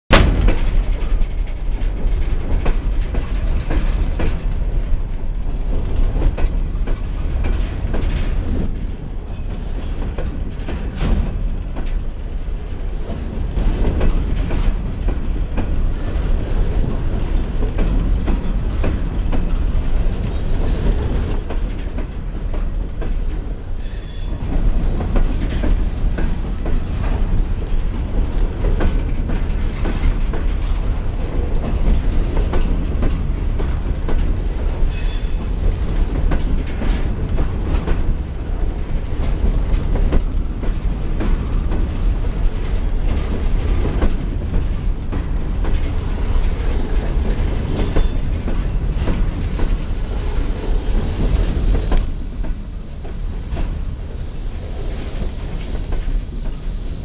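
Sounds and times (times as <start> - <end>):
wheels clacking over rail joints: 0.1 - 56.6
freight train rumbling past: 0.1 - 57.0.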